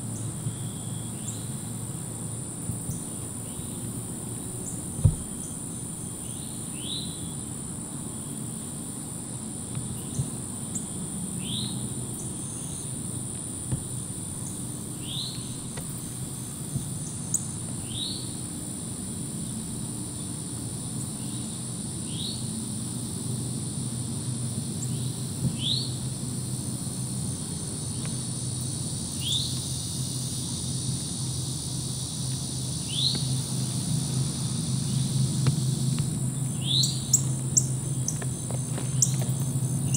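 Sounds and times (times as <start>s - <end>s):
insects droning: 0.0s - 39.9s
low steady hum: 0.0s - 39.9s.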